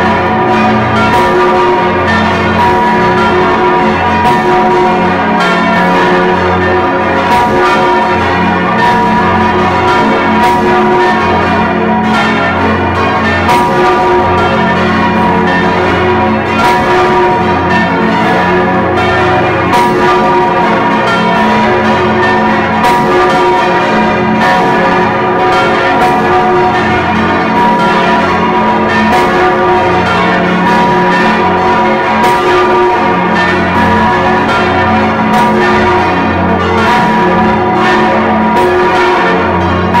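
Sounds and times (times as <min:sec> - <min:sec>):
large church bell ringing: 0:00.0 - 0:40.0.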